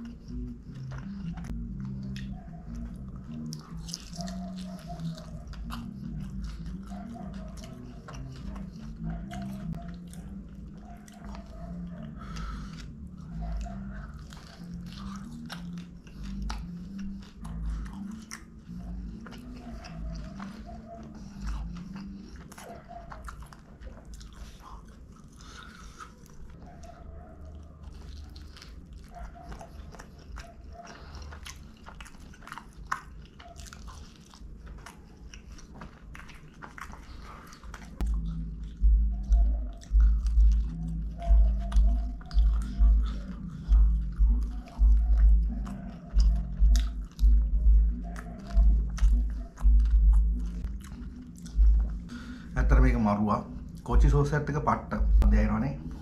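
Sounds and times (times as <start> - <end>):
crunching crust: 0.0 - 54.3
wet chewing: 0.0 - 56.0.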